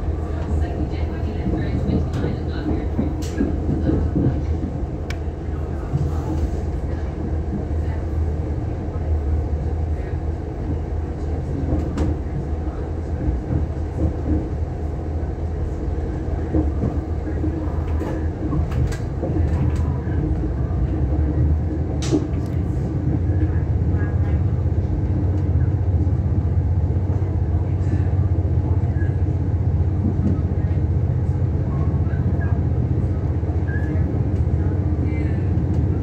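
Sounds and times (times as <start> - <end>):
diesel train drone: 0.0 - 36.0
wheels rumbling on rails: 0.0 - 36.0.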